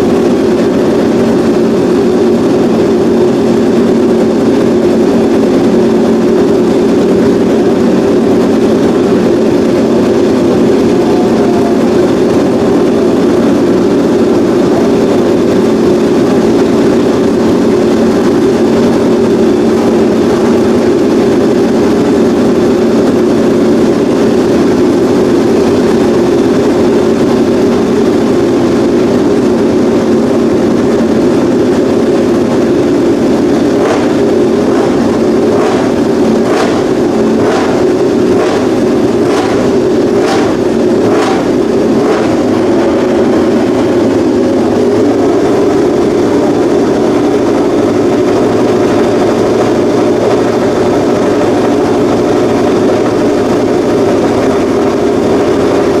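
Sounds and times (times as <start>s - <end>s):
loud motorcycle engine running: 0.0s - 56.0s.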